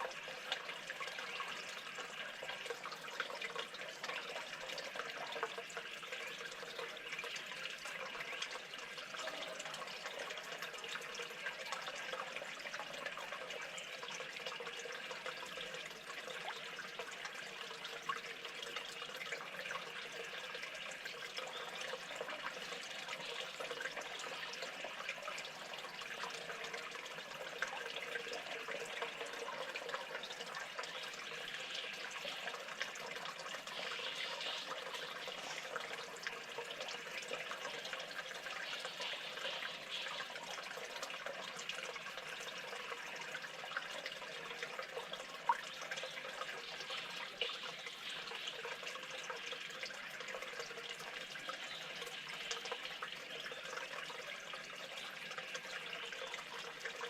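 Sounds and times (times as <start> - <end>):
water trickling and dripping: 0.0 - 57.0.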